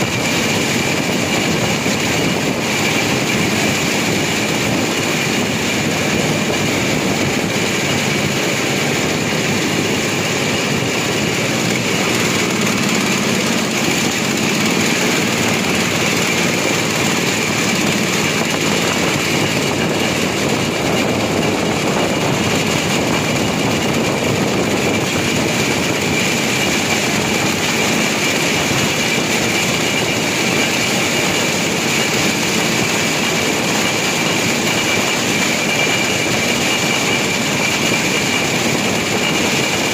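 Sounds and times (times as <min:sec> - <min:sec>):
engine drone: 0:00.0 - 0:39.9
high whine: 0:00.0 - 0:39.9
wheels rumbling on rails: 0:00.0 - 0:39.9.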